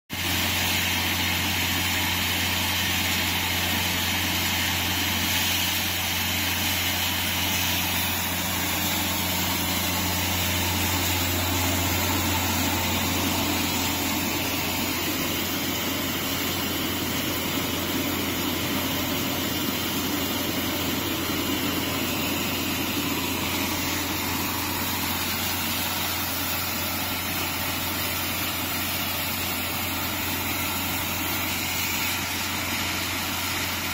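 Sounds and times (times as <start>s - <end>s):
dryer motor humming and whirring: 0.2s - 33.9s.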